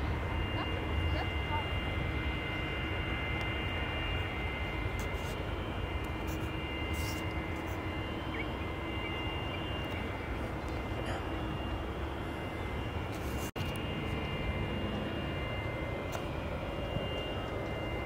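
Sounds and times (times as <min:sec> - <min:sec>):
aircraft engines rumbling: 0:00.0 - 0:18.0
high-pitched engine whine: 0:00.0 - 0:18.0.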